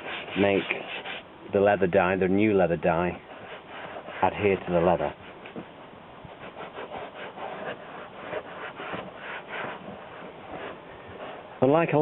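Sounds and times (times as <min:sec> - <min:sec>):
brush scrubbing leather: 0:00.0 - 0:01.2, 0:03.0 - 0:12.0.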